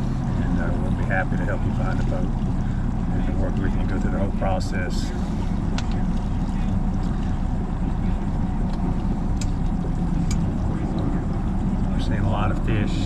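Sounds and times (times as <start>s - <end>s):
outboard engine running: 0.0s - 13.0s
water and wind rumble: 0.0s - 13.0s.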